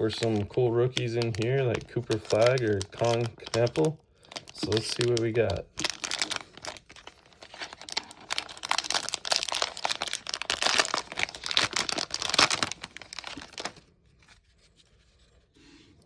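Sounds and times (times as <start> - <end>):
plastic wrapper crinkling: 0.0 - 14.6.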